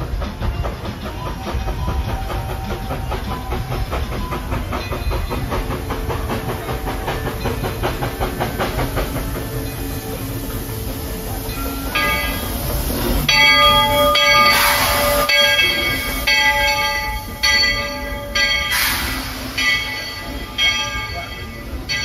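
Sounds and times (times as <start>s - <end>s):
locomotive bell ringing: 0.0s - 22.0s
moving train: 0.0s - 22.0s
rushes of steam hiss: 0.0s - 22.0s.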